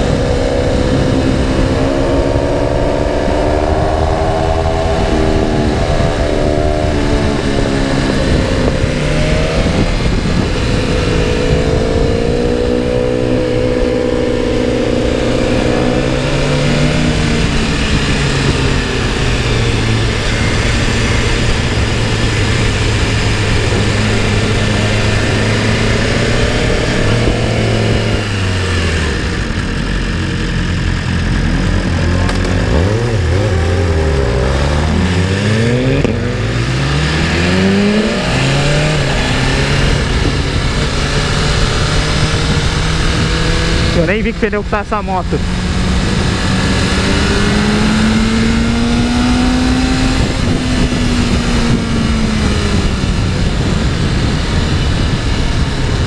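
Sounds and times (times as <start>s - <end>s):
motorcycle engine revving: 0.0s - 56.0s
wind rushing: 0.0s - 56.0s.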